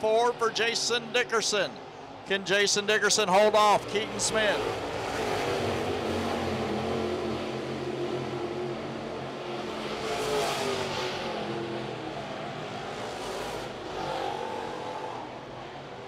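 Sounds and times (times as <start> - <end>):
race car engines at speed: 0.0 - 16.0.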